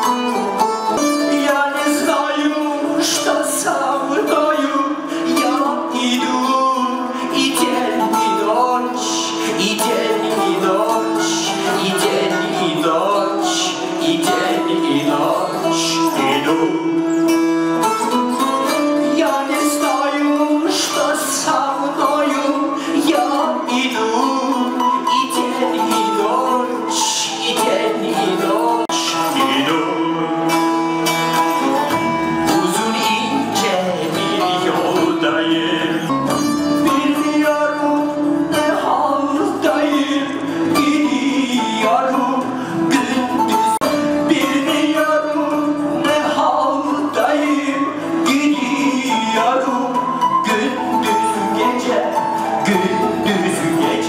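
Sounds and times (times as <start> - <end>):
man singing into microphone: 0.0 - 54.0.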